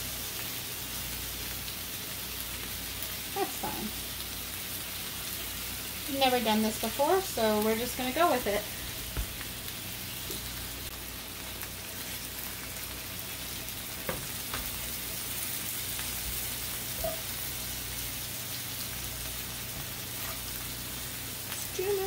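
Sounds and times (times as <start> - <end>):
scallops sizzling in pan: 0.0 - 22.0.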